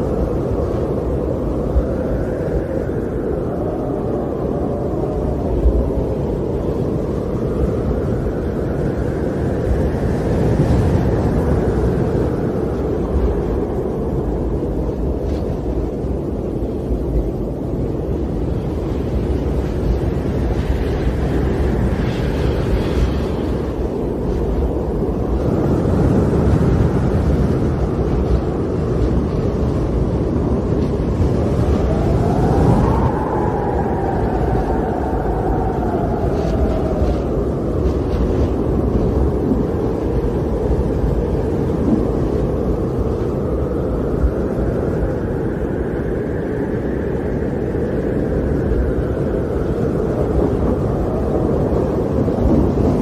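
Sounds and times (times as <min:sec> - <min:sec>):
storm wind blowing: 0:00.0 - 0:53.0.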